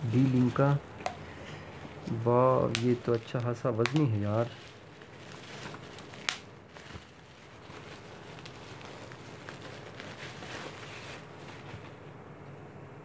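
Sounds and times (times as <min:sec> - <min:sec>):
bubble wrap rustling and crinkling: 0:00.0 - 0:12.1.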